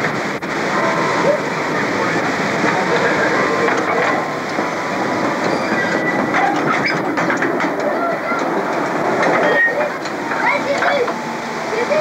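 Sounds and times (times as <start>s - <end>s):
miniature train running on track: 0.0s - 12.0s.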